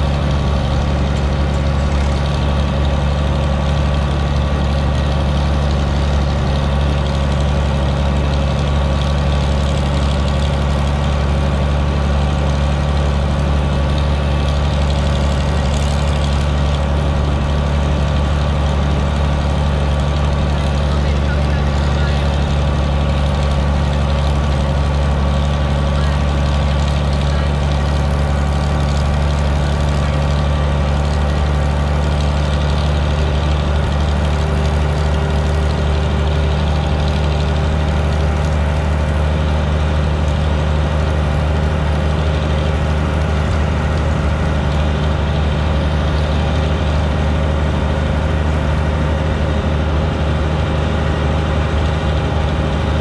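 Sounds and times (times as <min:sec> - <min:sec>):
tractor engine droning: 0:00.0 - 0:53.0.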